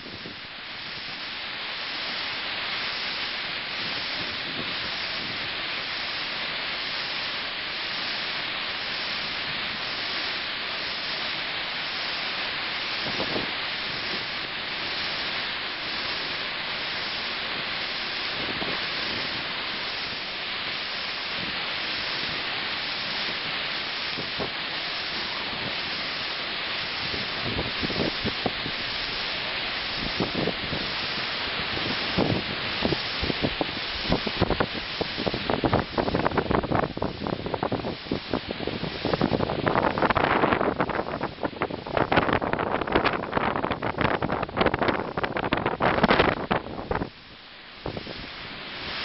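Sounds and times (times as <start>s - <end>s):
strong wind rushing: 0.0s - 47.2s, 47.8s - 49.0s
driving rain: 0.0s - 49.0s.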